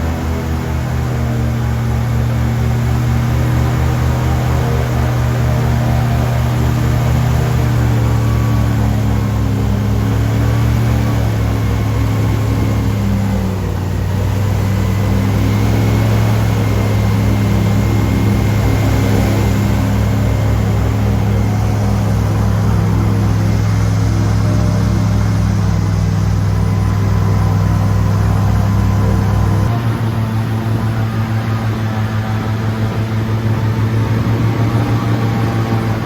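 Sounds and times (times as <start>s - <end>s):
airboat engine and propeller: 0.0s - 36.0s.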